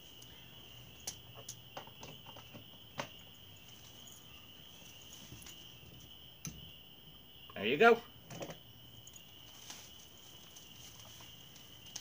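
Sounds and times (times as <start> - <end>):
cricket trill: 0.0 - 12.0.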